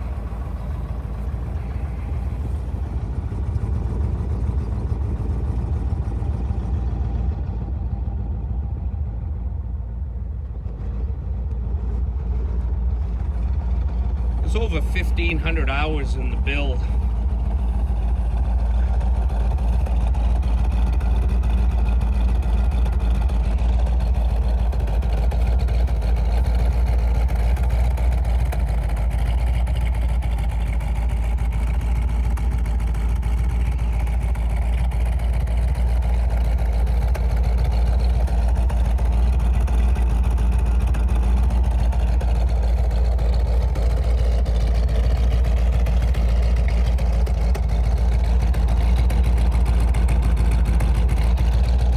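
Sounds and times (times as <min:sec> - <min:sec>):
car engine idling: 0:00.0 - 0:51.9.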